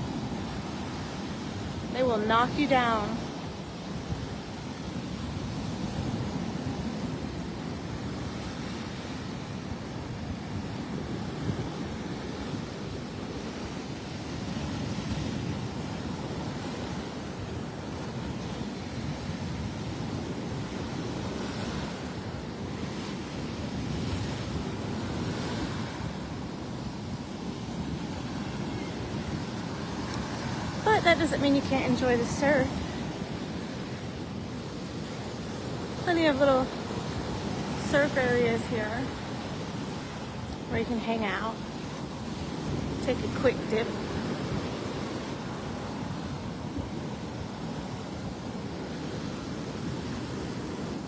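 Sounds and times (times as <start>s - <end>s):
surf breaking on beach: 0.0s - 51.0s
wind buffeting microphone: 0.0s - 51.0s.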